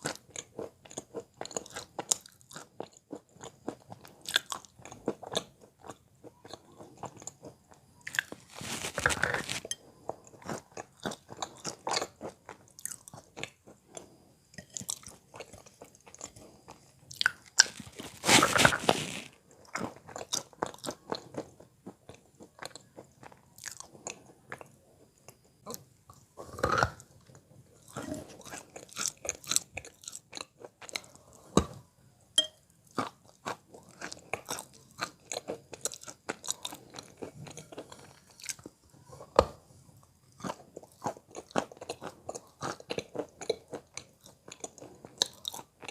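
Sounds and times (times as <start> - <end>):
chewing chalk crunches: 0.0 - 14.2, 14.8 - 31.8, 40.3 - 45.9.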